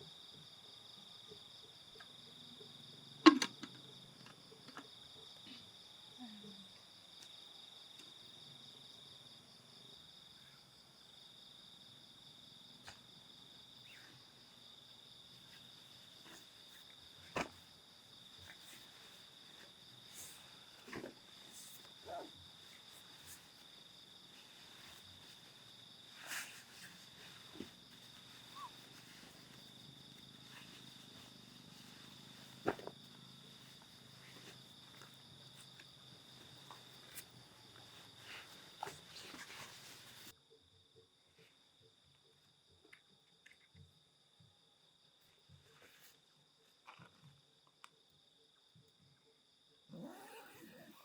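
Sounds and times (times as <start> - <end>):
insects trilling: 0.0 - 42.8, 45.8 - 51.0.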